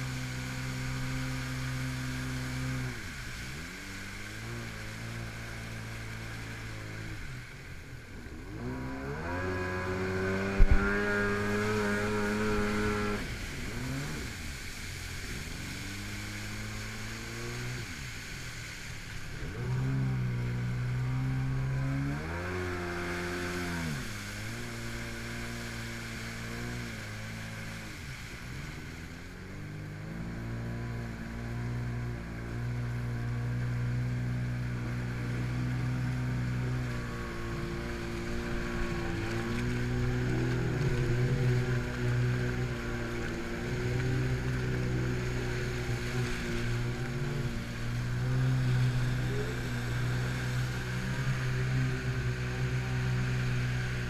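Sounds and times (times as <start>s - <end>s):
water rushing off hull: 0.0s - 54.0s
watercraft engine revving: 0.0s - 54.0s.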